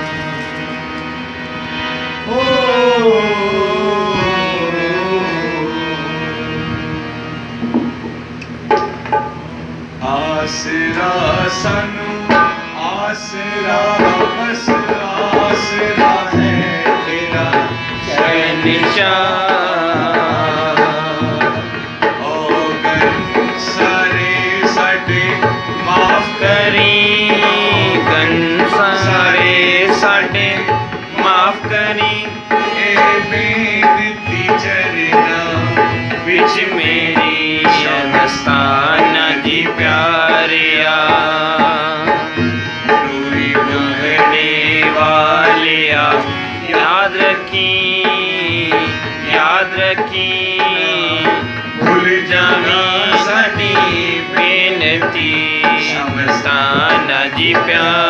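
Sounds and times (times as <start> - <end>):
harmonium notes: 0.0 - 58.0
hand drum rhythm: 7.6 - 9.4, 10.9 - 58.0.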